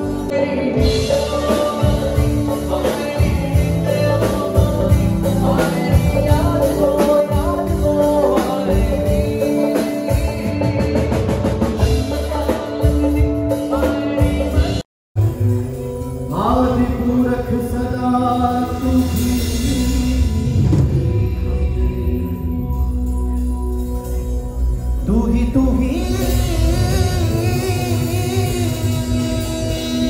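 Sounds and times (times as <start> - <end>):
man singing: 0.0 - 14.9, 16.2 - 23.0, 24.8 - 30.0
bass guitar: 0.0 - 30.0
drum kit: 0.0 - 30.0
electric guitar: 0.0 - 30.0.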